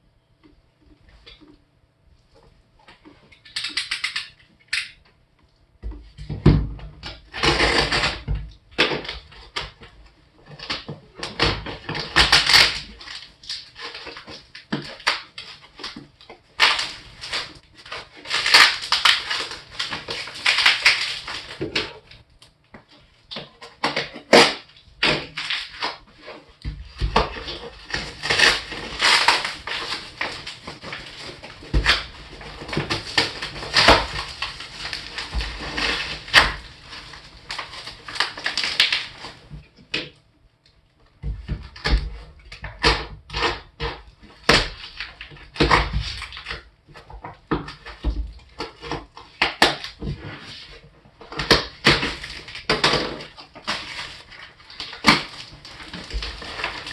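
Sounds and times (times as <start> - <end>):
packing material crinkling and tearing: 2.8 - 5.0, 6.6 - 40.2, 41.1 - 56.9.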